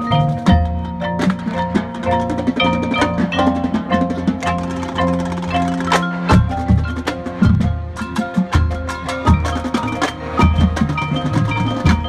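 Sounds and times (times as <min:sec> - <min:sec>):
marimba and xylophone notes: 0:00.0 - 0:12.0.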